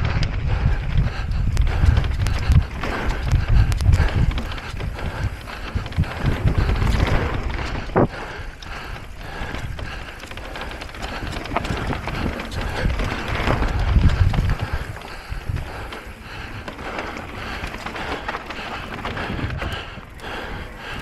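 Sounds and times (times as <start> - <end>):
mountain bike clattering over rough ground: 0.0 - 21.0
wind rumbling on microphone: 0.0 - 21.0.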